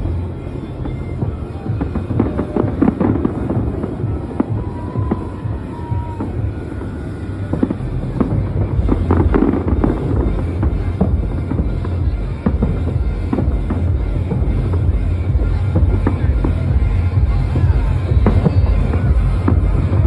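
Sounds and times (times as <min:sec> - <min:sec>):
continuous low rumble: 0:00.0 - 0:20.0
fireworks bangs and crackles: 0:00.0 - 0:20.0
music: 0:00.0 - 0:20.0.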